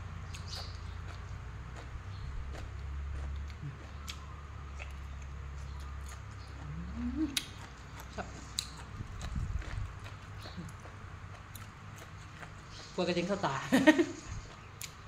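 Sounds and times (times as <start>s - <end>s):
chewing and mouth clicks: 0.2s - 13.4s, 14.2s - 15.0s.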